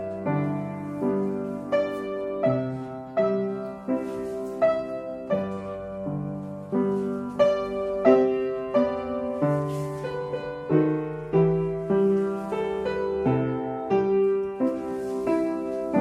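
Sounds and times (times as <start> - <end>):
piano ballet accompaniment: 0.0 - 16.0.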